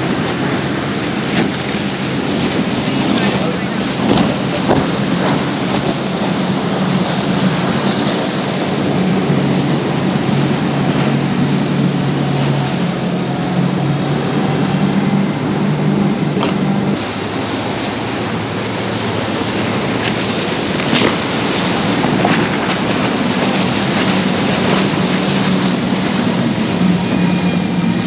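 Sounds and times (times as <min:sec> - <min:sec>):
powerboat engines droning: 0:00.0 - 0:28.0
wind and surf: 0:00.0 - 0:28.0.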